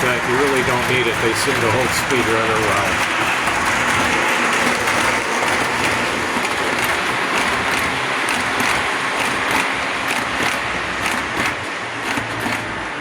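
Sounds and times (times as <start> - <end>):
faint clicks over the rail: 0.0 - 12.7
model train running on track: 0.0 - 13.0.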